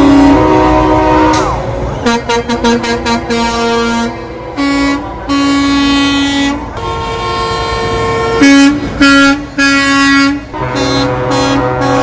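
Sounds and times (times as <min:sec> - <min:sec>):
truck air horn blasts: 0:00.0 - 0:12.0.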